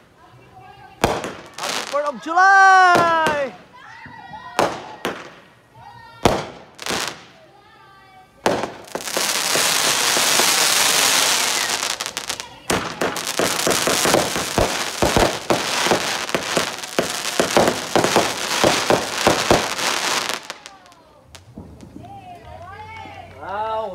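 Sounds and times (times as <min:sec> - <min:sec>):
fireworks crackling pops: 0:00.0 - 0:07.8, 0:08.4 - 0:23.5
fireworks hissing sparks: 0:00.0 - 0:21.9.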